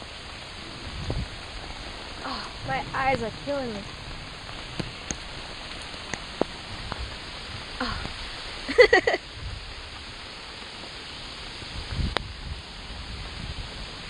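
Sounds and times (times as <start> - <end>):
raindrops ticking close: 0.0 - 14.0
steady rain hiss: 0.0 - 14.0.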